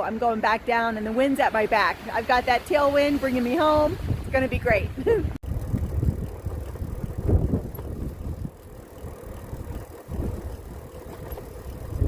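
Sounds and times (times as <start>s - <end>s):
wind buffeting microphone: 1.8s - 12.0s.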